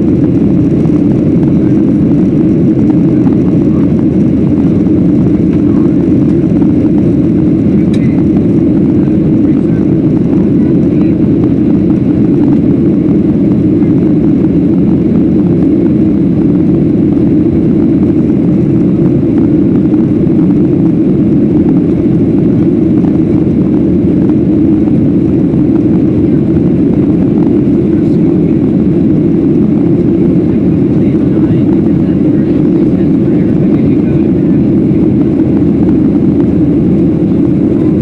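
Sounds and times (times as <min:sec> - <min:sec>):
airliner cabin noise: 0:00.0 - 0:38.0.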